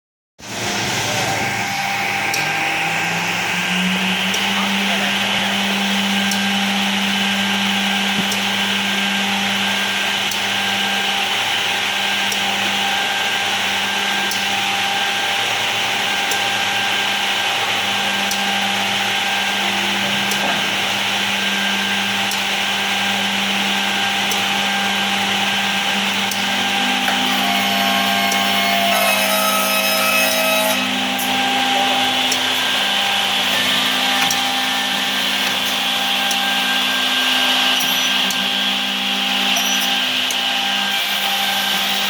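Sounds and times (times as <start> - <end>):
higher machine tones: 0.4 - 40.9
machine motor hum and whine: 0.4 - 42.0.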